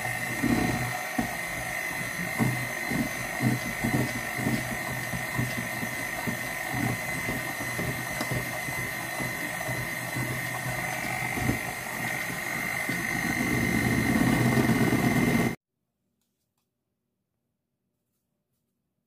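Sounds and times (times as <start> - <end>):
electric hand mixer whisking batter: 0.0 - 15.6.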